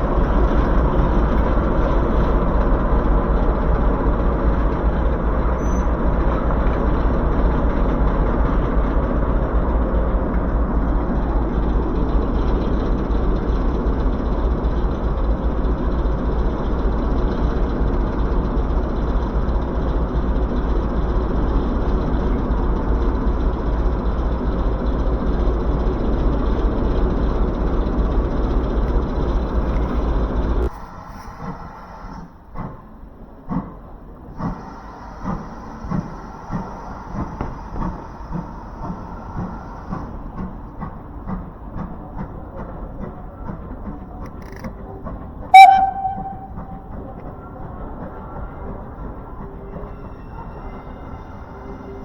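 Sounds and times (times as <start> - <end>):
train rumbling: 0.0 - 52.0.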